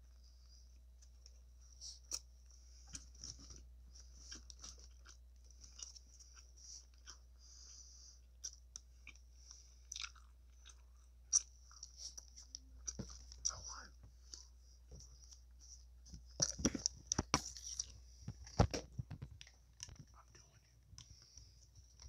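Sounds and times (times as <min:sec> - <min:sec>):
person chewing food: 0:00.1 - 0:22.0.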